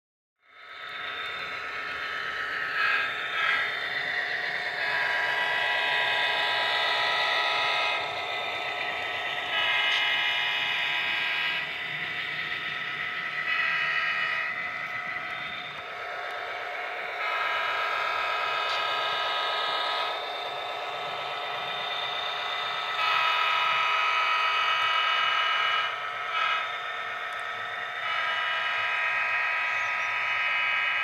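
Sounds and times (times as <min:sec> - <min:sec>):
model train running on track: 0:00.4 - 0:31.0
model locomotive horn blasts: 0:01.0 - 0:31.0.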